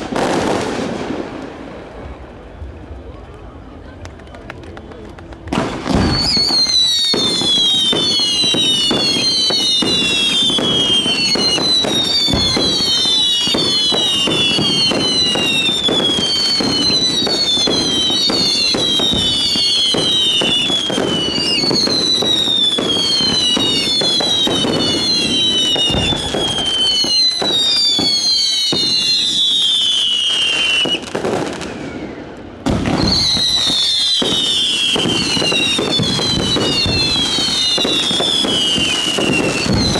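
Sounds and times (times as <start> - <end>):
fireworks bangs and crackling: 0.0 - 39.9
whistling fireworks: 0.0 - 39.9.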